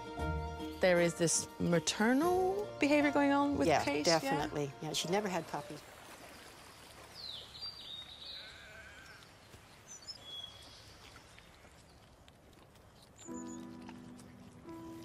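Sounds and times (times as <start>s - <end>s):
faint outdoor field ambience: 0.0s - 15.0s.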